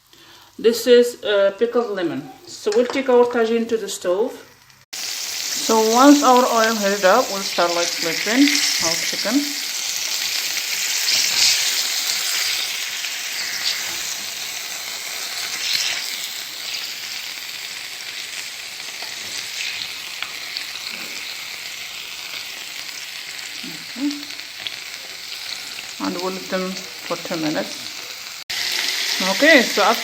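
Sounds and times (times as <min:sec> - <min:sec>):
chicken sizzling in oil: 0:04.5 - 0:30.0.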